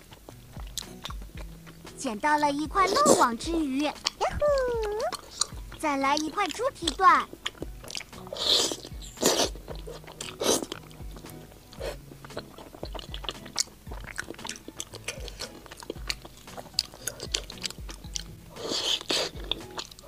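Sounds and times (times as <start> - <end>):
faint background music: 0.0 - 20.0
wet chewing and smacking: 0.0 - 20.0.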